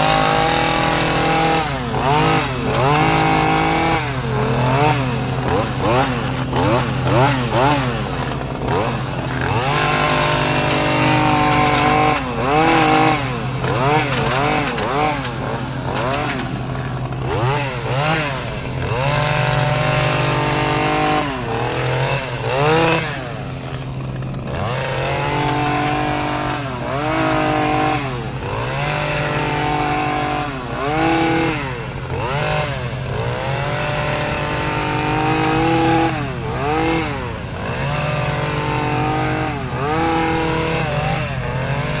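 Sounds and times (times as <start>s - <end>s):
hedge trimmer engine revving: 0.0s - 42.0s
second engine running steadily: 0.0s - 42.0s.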